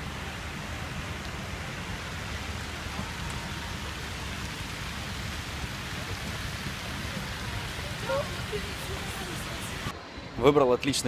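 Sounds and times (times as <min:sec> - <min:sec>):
fountain jets splashing into pool: 0:00.0 - 0:09.9.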